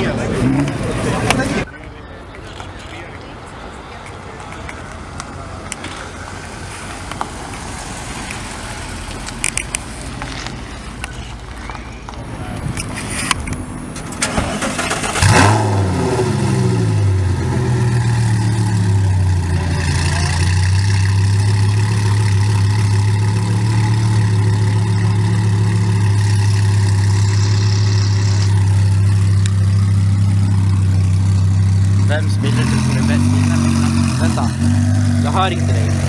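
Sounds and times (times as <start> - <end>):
car engine starting and idling: 4.7 - 36.0.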